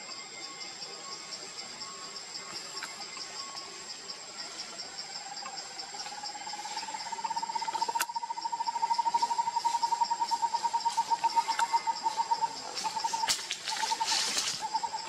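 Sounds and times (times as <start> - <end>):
insect fast-pulsing buzz: 0.0 - 15.0
insect high chirping: 0.0 - 15.0.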